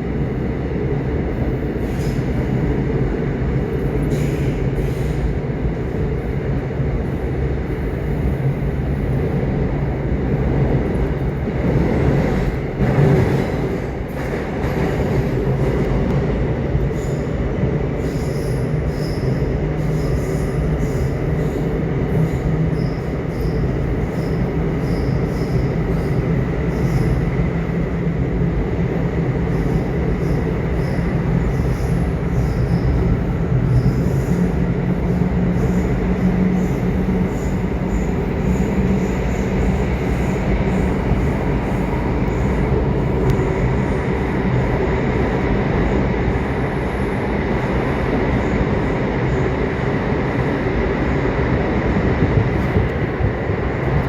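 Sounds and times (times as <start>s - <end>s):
subway train wheels rumbling on track: 0.0s - 54.0s.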